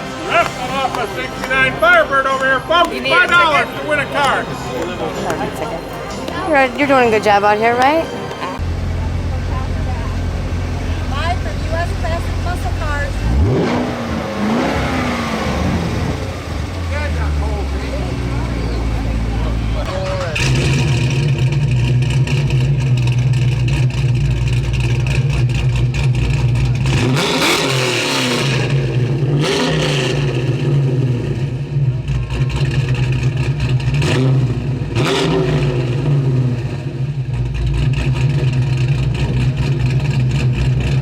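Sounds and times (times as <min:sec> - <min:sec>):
car engines rumbling: 0:00.0 - 0:41.0.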